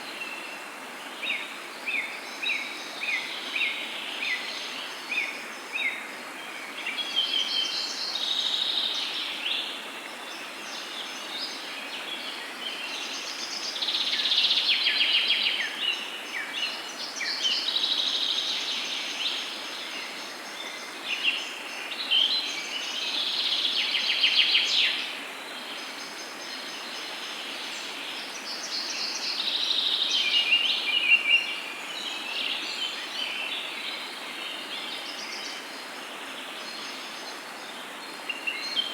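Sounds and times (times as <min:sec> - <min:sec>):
background hiss: 0:00.0 - 0:38.9
songbirds singing: 0:00.0 - 0:38.9.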